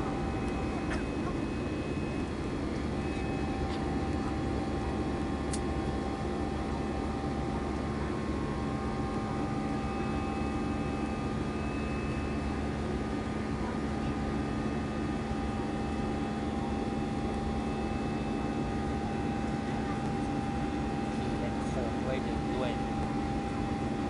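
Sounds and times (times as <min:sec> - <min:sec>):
jet engines droning and whining: 0:00.0 - 0:24.0.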